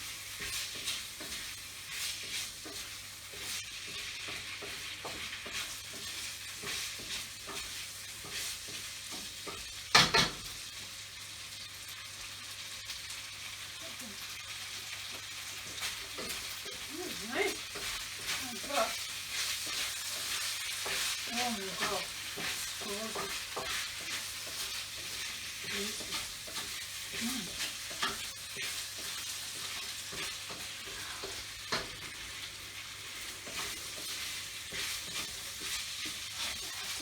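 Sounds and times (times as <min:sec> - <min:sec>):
food sizzling in a frying pan: 0:00.0 - 0:37.0
utensil clacking against pan: 0:00.4 - 0:10.5, 0:15.1 - 0:37.0.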